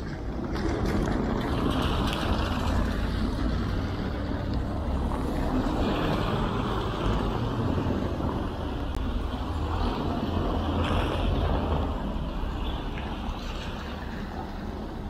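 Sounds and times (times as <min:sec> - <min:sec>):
wind rumble on microphone: 0:00.0 - 0:15.0
tyres hissing on wet paving: 0:00.2 - 0:15.0.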